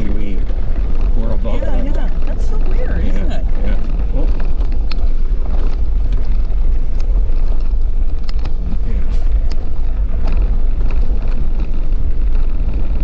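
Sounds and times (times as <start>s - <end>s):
engine and road rumble: 0.0s - 13.0s
small knocks and rattles: 0.0s - 13.0s.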